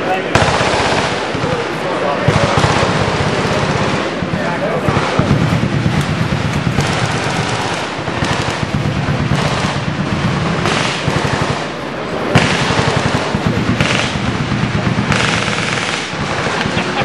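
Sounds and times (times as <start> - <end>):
rapid gunfire from many guns: 0.0 - 17.0.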